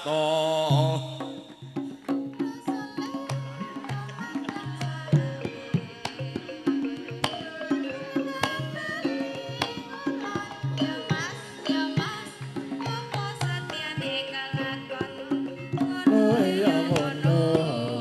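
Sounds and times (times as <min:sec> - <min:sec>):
hand drum beating quick rhythm: 0:01.0 - 0:18.0
gamelan ensemble ringing notes: 0:01.6 - 0:18.0.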